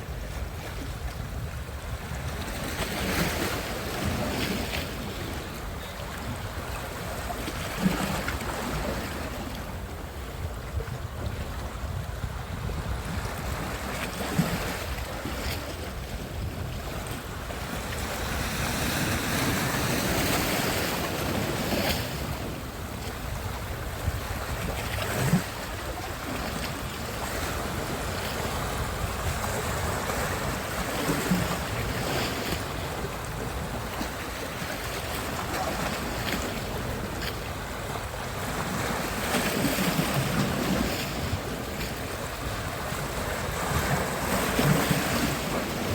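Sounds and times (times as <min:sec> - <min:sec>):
sea surf washing onto beach: 0:00.0 - 0:45.9
wind buffeting microphone: 0:00.0 - 0:45.9.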